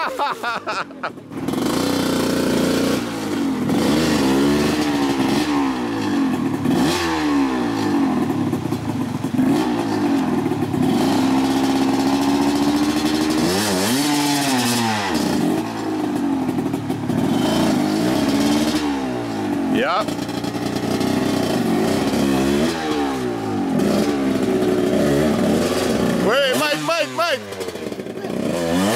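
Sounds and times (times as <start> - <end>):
dirt bike engine revving: 0.0 - 28.9.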